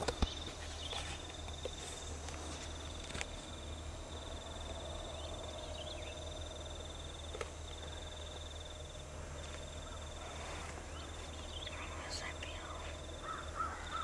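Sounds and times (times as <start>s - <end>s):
faint bird chirps: 0.0s - 3.6s, 4.2s - 14.0s
insect trilling: 0.0s - 14.0s
low steady hum: 0.0s - 14.0s.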